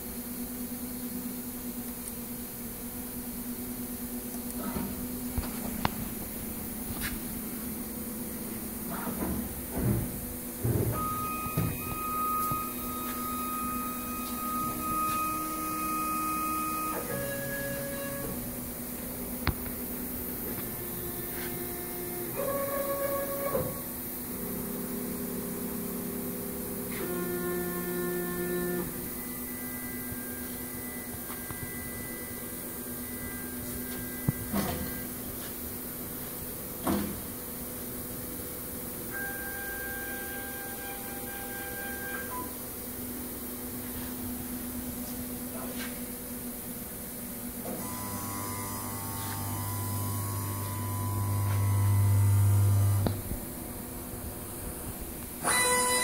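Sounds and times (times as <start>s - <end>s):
machine hum of several tones: 0.0s - 56.0s.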